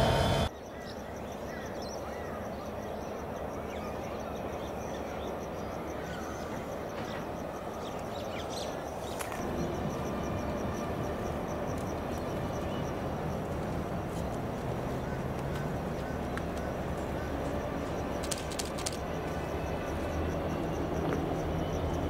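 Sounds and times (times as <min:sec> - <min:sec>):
train rumbling: 0:00.0 - 0:00.5, 0:03.2 - 0:22.0
birds chirping: 0:00.0 - 0:22.0.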